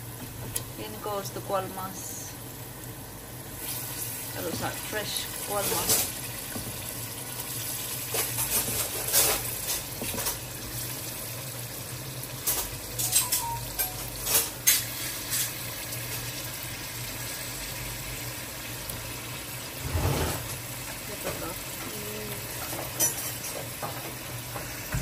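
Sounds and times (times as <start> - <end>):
curry sizzling and bubbling: 0.0 - 25.0.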